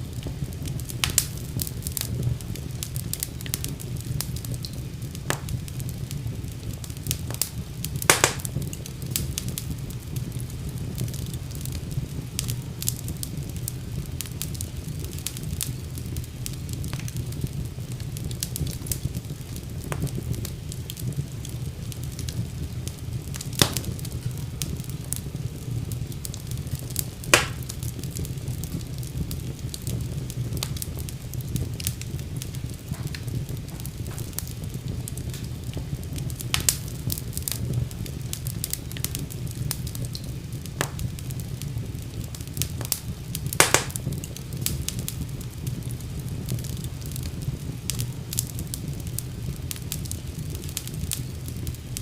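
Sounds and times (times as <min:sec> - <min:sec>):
fire crackling and popping: 0:00.0 - 0:52.0
fire rumbling: 0:00.0 - 0:52.0.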